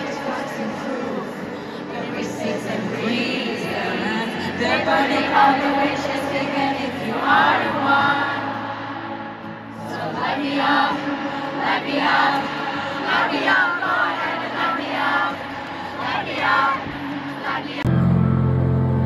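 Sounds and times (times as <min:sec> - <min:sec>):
crowd singing along: 0:00.0 - 0:19.0
live pop concert music: 0:00.0 - 0:19.0.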